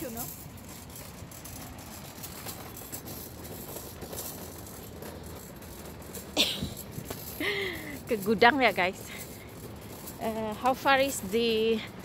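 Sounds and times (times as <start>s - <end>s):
metal trolley rattling on asphalt: 0.0s - 12.0s.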